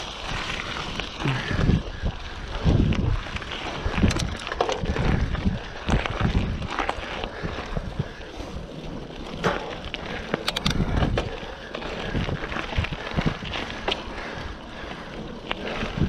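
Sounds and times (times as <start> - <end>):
bike knocks and rattles: 0.0 - 8.2, 8.9 - 14.4
wind on microphone: 0.0 - 14.6, 15.2 - 16.0
bike tyres on rough ground: 0.0 - 16.0.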